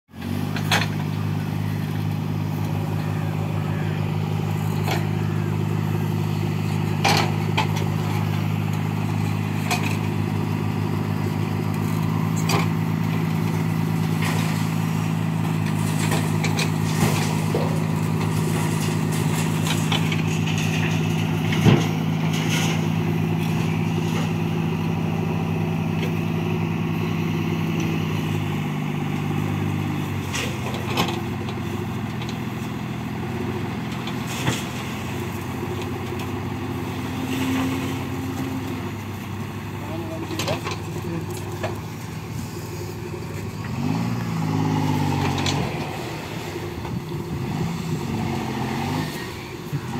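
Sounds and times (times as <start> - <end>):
diesel truck engine running: 0.1 - 49.9.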